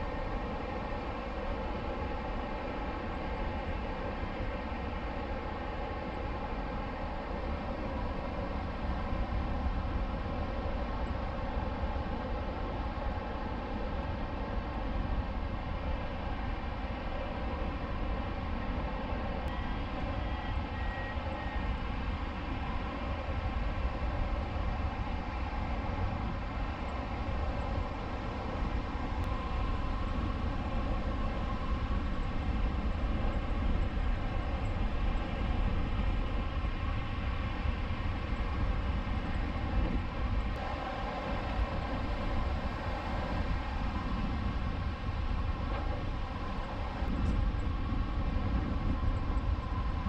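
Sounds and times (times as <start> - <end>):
humming drone: 0.0 - 50.0
wind buffeting microphone: 7.3 - 50.0.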